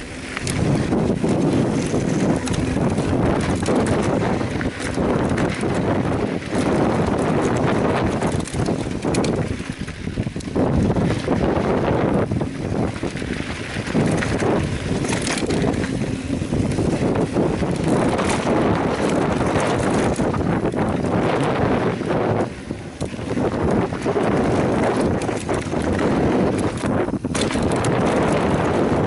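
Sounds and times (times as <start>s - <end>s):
bike clicks and rattles: 0.0s - 29.0s
wind buffeting microphone: 0.0s - 29.0s.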